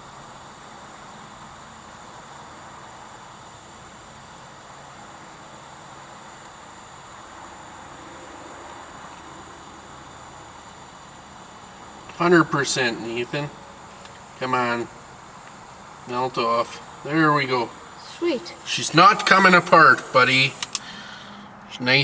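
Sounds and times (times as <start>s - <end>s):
soldering torch hissing: 0.0s - 21.4s.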